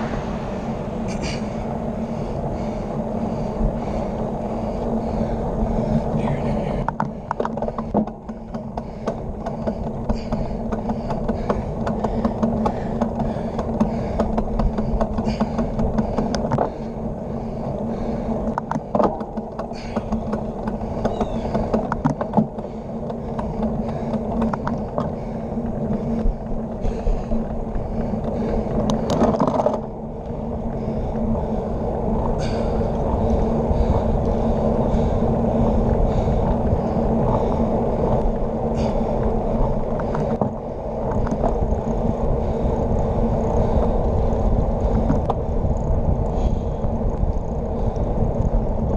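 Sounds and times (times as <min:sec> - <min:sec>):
bike rattling over bumps: 0:00.0 - 0:48.9
bike tyre and wind noise: 0:00.0 - 0:48.9.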